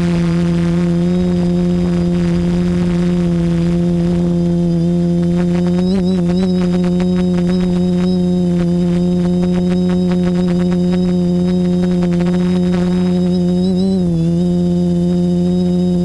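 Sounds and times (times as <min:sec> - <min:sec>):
quadcopter propellers humming: 0:00.0 - 0:16.0.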